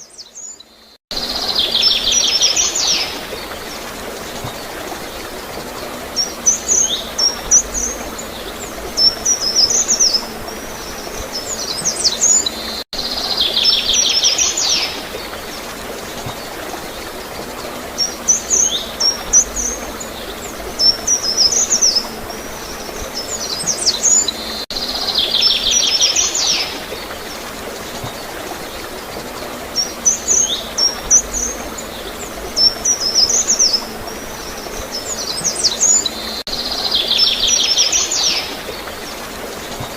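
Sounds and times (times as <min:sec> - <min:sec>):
flowing water gurgling: 0:00.0 - 0:39.9
small birds chirping: 0:00.0 - 0:39.9.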